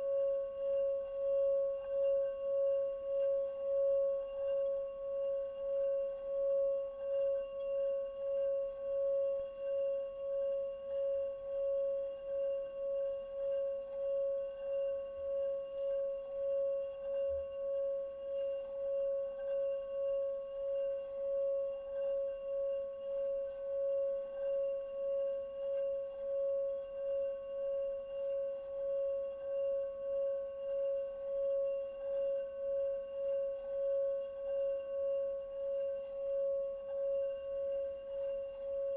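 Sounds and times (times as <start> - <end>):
singing bowl sustained tone: 0.0 - 38.9.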